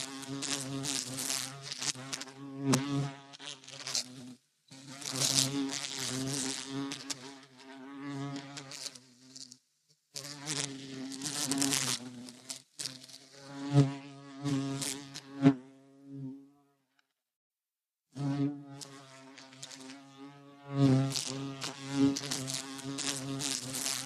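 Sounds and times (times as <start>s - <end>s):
bumblebee buzzing in flight: 0.0s - 9.6s, 10.2s - 16.4s, 18.2s - 24.0s.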